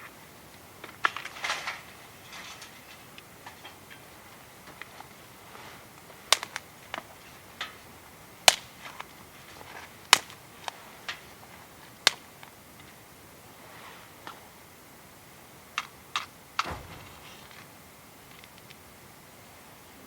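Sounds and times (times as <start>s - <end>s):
wood fire crackling and popping: 0.0s - 13.2s, 15.6s - 19.1s.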